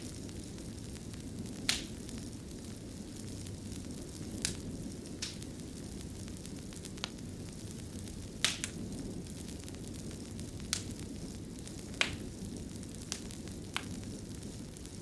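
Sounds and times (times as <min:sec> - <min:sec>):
low rumble of fire: 0:00.0 - 0:15.0
wood fire crackling pops: 0:00.0 - 0:15.0.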